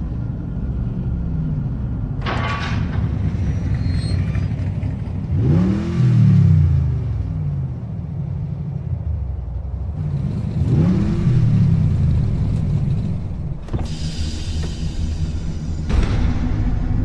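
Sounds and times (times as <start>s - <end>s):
car engine revving: 3.1s - 17.0s.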